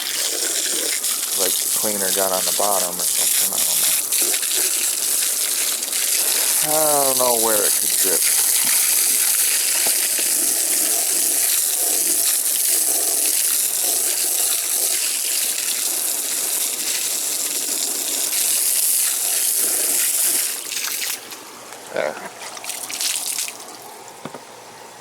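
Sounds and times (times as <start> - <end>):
water spraying from a hose: 0.0 - 24.2.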